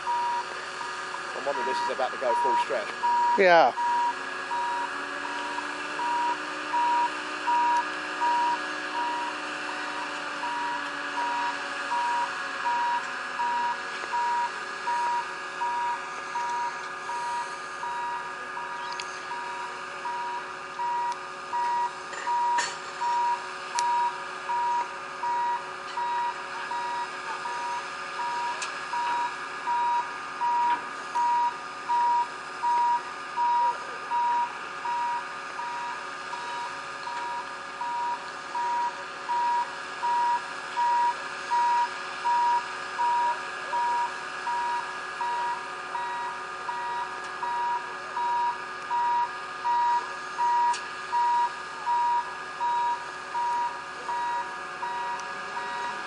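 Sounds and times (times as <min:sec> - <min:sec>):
crane engine running: 0:00.0 - 0:56.0
crane warning alarm beeping: 0:00.0 - 0:56.0.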